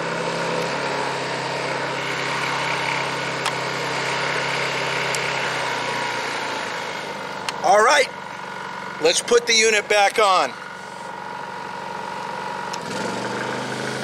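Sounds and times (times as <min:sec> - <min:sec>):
generator running: 0:00.0 - 0:14.0.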